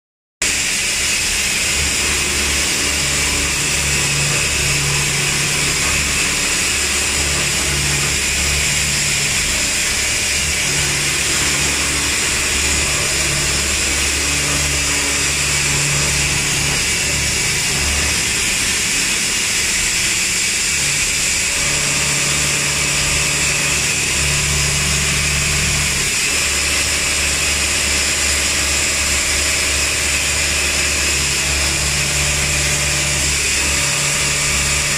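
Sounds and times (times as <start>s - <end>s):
milling machine spindle whine: 0.4s - 34.9s.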